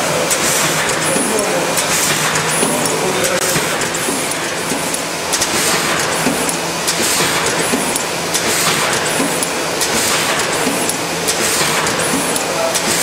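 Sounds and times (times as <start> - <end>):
laminating machine running: 0.0 - 13.0
machine clicks and clacks: 0.0 - 13.0.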